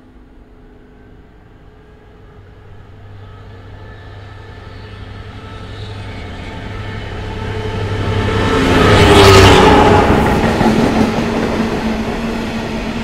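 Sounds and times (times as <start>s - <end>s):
locomotive engine drone: 0.0s - 13.0s.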